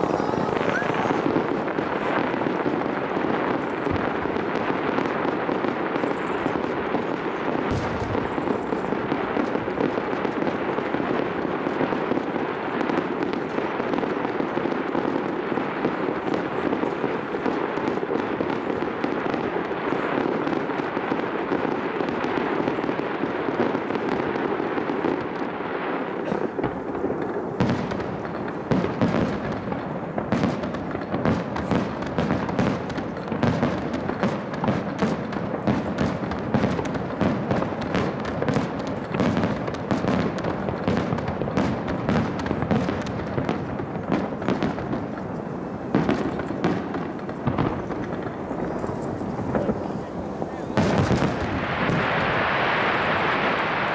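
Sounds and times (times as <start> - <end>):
fireworks crackle and rumble: 0.0 - 53.9
sharp firework bangs: 0.0 - 53.9.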